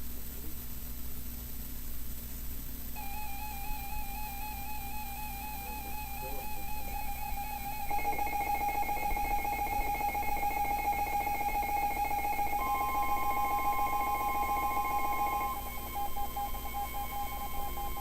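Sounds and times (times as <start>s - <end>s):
buzzing electronic tone: 3.0s - 18.0s
steady alarm tone: 3.0s - 18.0s.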